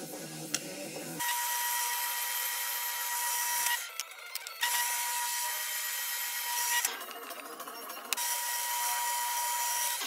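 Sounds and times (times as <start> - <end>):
electric drill whining through metal: 1.2 - 10.0.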